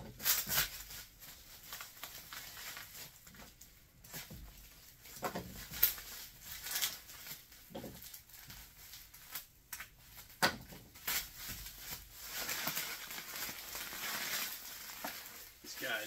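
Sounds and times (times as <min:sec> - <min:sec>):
bubble wrap rustling: 0:00.0 - 0:16.0
sharp bubble wrap crackles: 0:00.0 - 0:16.0.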